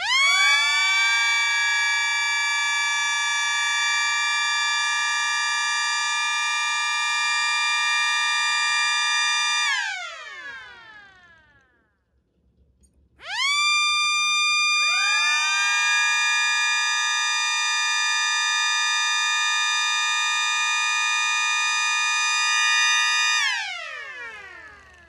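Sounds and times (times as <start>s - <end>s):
electric sirens: 0.0s - 11.7s, 13.2s - 25.0s.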